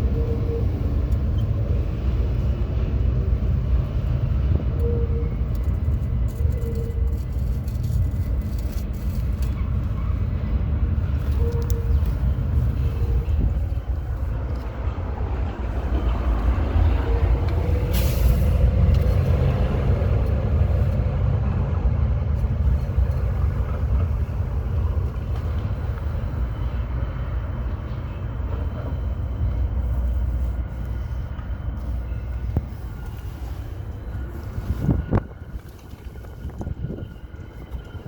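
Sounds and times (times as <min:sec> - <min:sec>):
engine tone: 0:00.0 - 0:38.0
street traffic rumble: 0:00.0 - 0:38.0
wind on microphone: 0:00.0 - 0:38.0.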